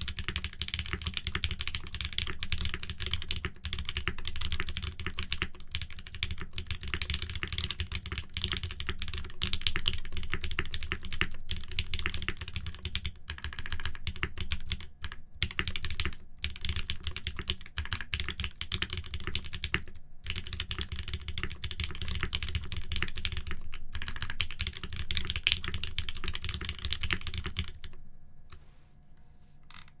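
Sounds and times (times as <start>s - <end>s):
fast mechanical keyboard typing: 0.0s - 28.0s.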